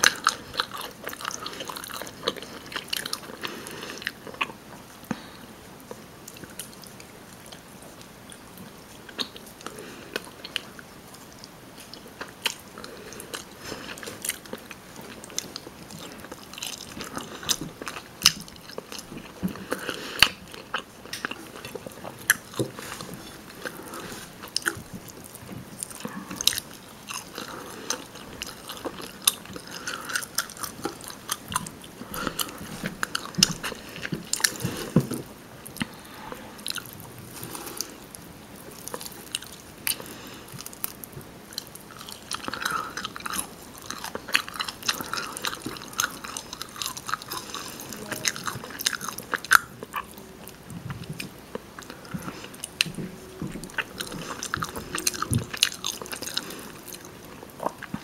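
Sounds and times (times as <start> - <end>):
chewing chicken: 0.0 - 58.0.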